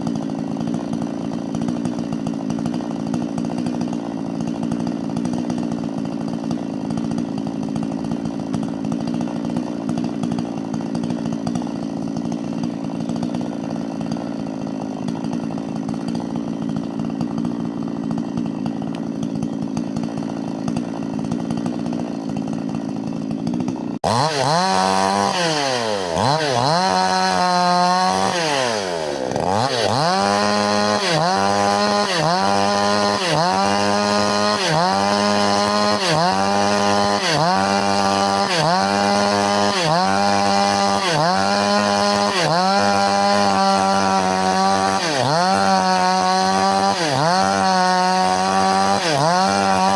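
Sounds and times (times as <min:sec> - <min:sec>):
two-stroke chainsaw running: 0:00.0 - 0:49.9.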